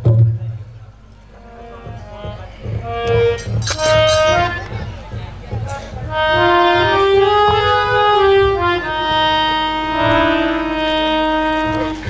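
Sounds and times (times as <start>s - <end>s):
steady drum beat: 0.0s - 12.0s
reed instrument melody: 0.9s - 12.0s.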